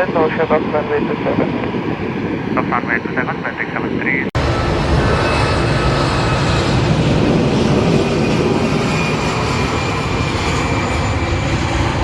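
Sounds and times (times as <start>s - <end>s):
jet engines running loudly: 0.0s - 12.0s.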